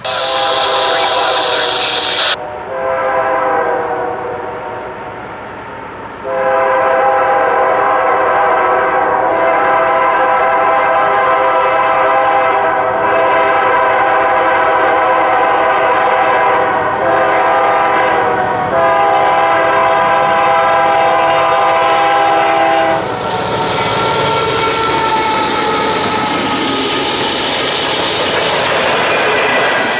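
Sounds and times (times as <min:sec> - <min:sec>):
locomotive air horn: 0:00.0 - 0:05.2, 0:06.2 - 0:26.4
train passing with rushing rumble: 0:00.0 - 0:29.9.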